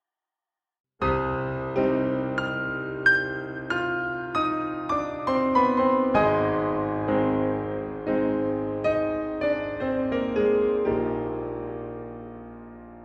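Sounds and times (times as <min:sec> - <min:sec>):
piano with long reverb: 0:01.0 - 0:13.0.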